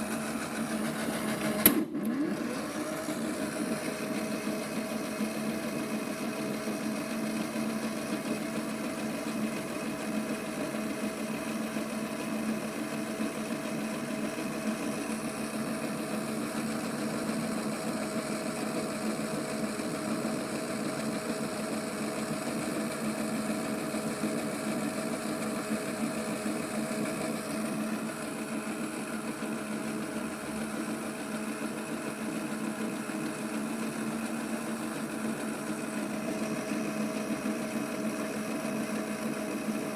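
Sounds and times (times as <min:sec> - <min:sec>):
toy washing machine motor humming: 0:00.0 - 0:39.9.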